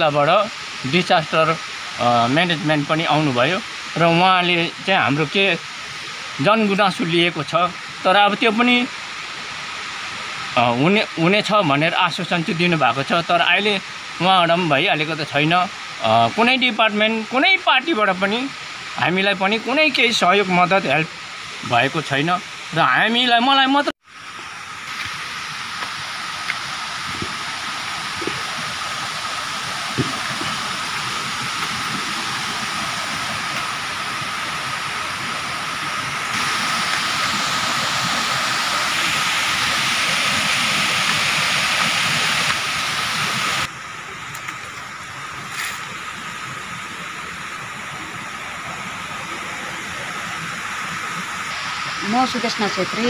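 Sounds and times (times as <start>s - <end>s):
steady hiss: 0.0s - 53.0s
stream rushing: 0.0s - 53.0s.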